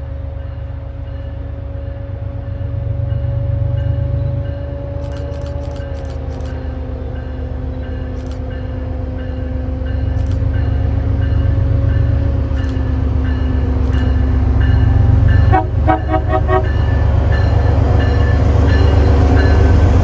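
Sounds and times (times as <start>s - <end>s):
train engine rumbling: 0.0s - 20.0s.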